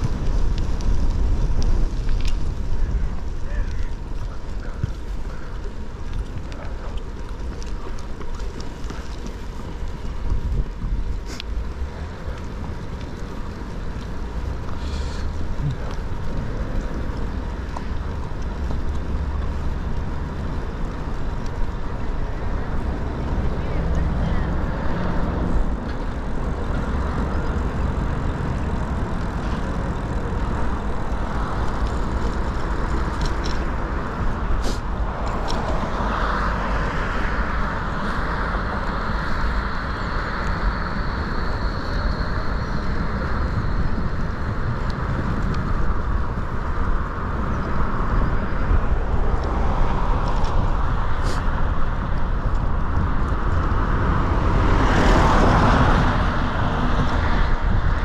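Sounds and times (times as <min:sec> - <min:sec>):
bicycle rolling: 0:00.0 - 0:58.0
wind rushing on microphone: 0:00.0 - 0:58.0.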